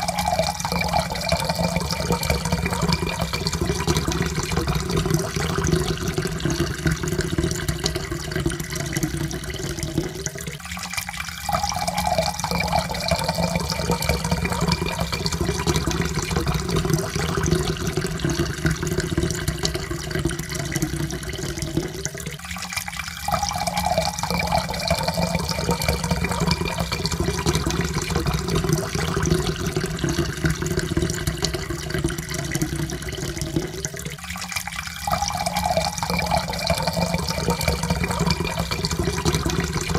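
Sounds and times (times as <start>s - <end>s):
water pouring into cup: 0.0s - 39.9s.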